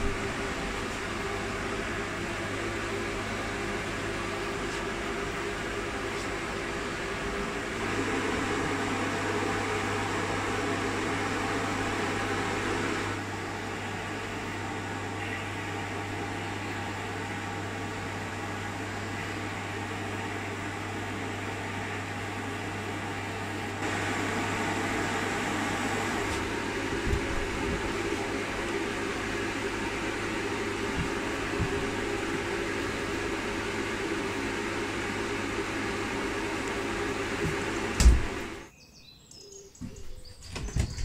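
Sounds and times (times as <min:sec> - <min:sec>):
electric fan humming: 0:00.0 - 0:38.8
low mains buzz: 0:00.0 - 0:41.0.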